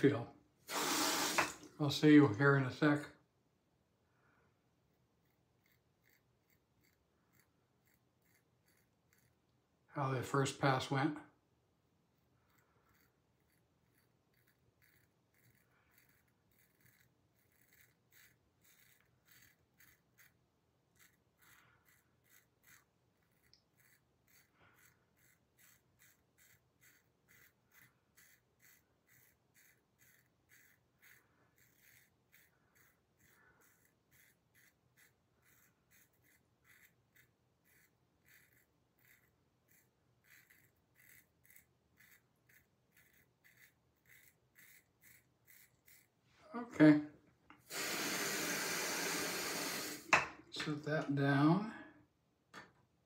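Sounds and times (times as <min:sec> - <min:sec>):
razor scraping stubble: 0:00.1 - 0:03.0, 0:04.9 - 0:11.1, 0:12.1 - 0:46.8.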